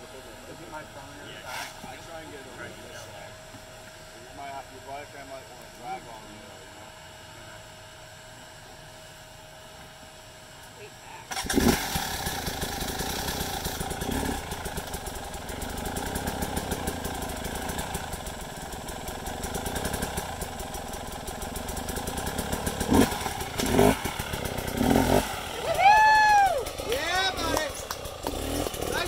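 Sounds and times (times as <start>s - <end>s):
dirt bike engine idling: 0.0s - 29.0s.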